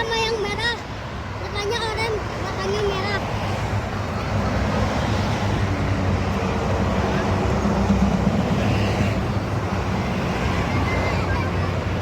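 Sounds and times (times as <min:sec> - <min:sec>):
buses passing: 0:00.0 - 0:12.0.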